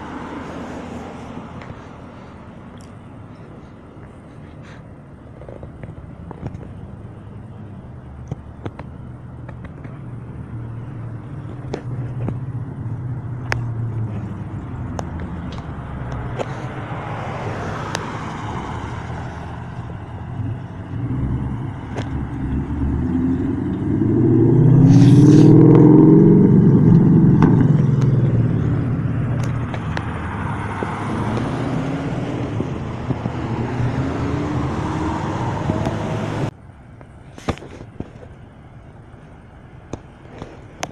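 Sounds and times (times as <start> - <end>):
cars passing close by: 0.0 - 40.9.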